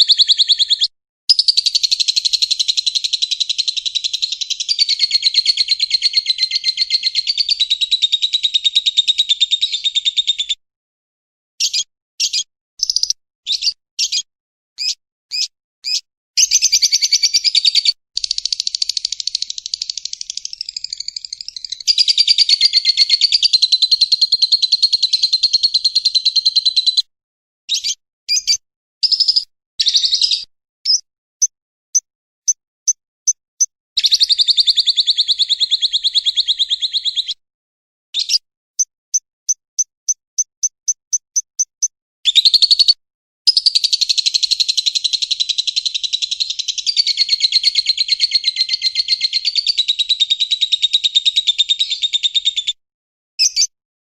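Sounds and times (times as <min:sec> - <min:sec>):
songbird trilling: 0:00.0 - 0:10.5, 0:11.6 - 0:27.0, 0:27.7 - 0:31.5, 0:34.0 - 0:37.4, 0:38.2 - 0:38.4, 0:39.1 - 0:52.7, 0:53.4 - 0:53.7
bird chirps: 0:00.0 - 0:10.6, 0:11.6 - 0:27.1, 0:27.7 - 0:37.4, 0:38.2 - 0:52.8, 0:53.4 - 0:53.8.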